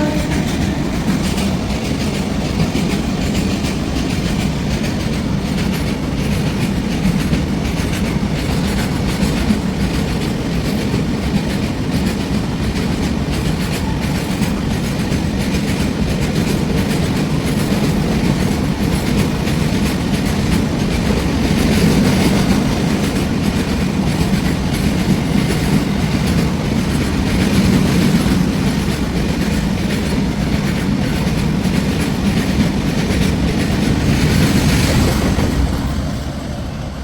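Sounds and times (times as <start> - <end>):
train wheels clattering: 0.0 - 37.0.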